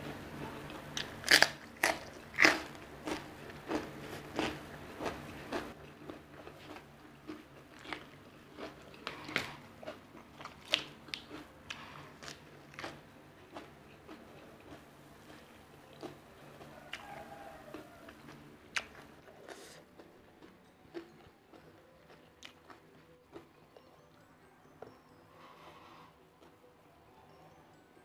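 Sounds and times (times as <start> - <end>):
person chewing crunchy food: 0.8 - 26.6.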